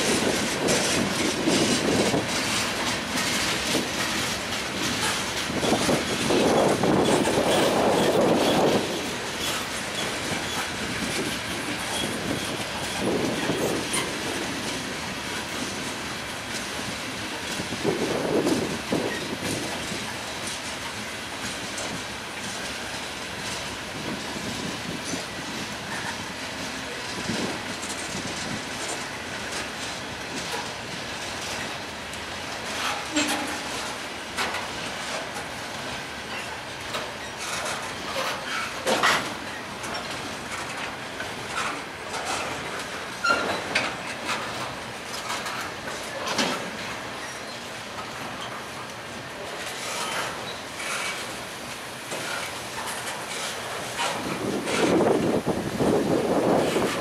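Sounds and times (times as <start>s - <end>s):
freight train rolling by: 0.0s - 57.0s
wheels clicking over rail joints: 0.0s - 57.0s.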